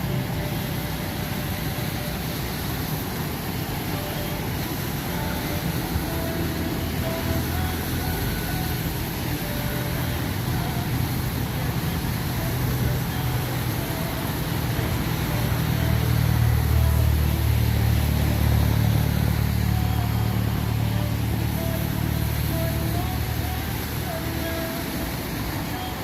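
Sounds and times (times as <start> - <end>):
rain hiss: 0.0 - 26.0
vehicle engine running: 0.0 - 26.0.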